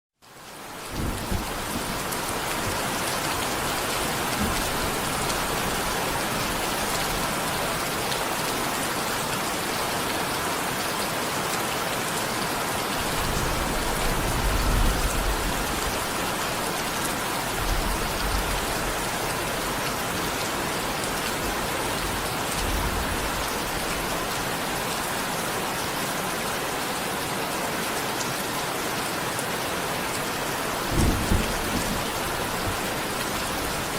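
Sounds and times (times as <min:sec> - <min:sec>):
rain pattering: 0:00.2 - 0:33.9.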